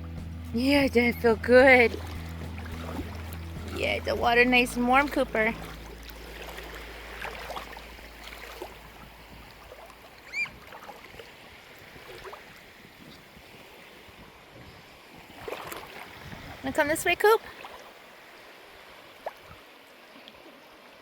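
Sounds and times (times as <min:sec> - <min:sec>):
water lapping at shoreline: 0:00.0 - 0:21.0
dog wading through water: 0:00.7 - 0:14.1, 0:15.0 - 0:21.0.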